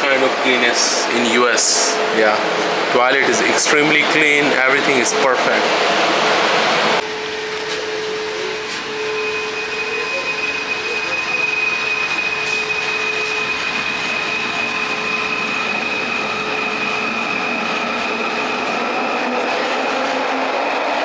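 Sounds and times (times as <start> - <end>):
high whine: 0.0 - 21.0
metro train rushing rumble: 0.0 - 21.0
shifting whining tones: 0.0 - 21.0.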